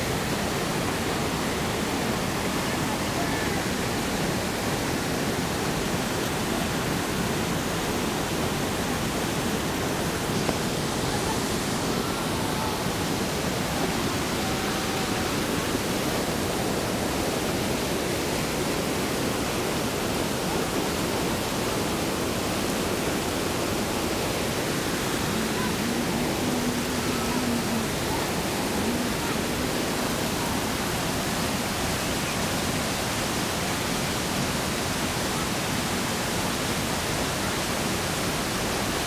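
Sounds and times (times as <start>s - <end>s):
river water rushing over weir: 0.0s - 39.0s.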